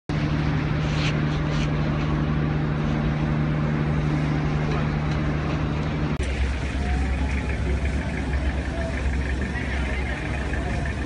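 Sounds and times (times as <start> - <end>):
engine humming: 0.1 - 11.0
outdoor noise: 0.1 - 11.0.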